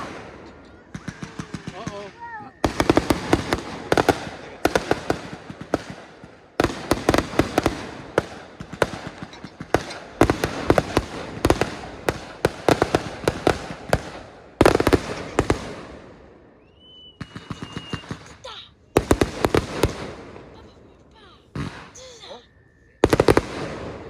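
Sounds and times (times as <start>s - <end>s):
fireworks cracking and popping: 0.0s - 16.2s, 16.9s - 22.4s, 23.0s - 24.0s.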